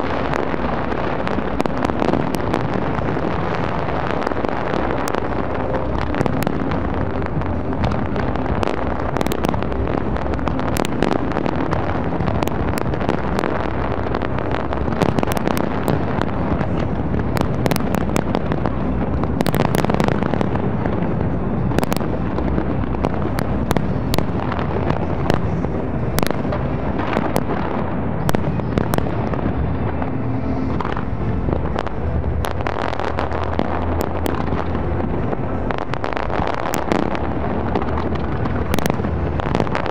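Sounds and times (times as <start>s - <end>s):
fireworks bangs and cracks: 0.0s - 39.9s
fireworks low rumble: 0.0s - 39.9s.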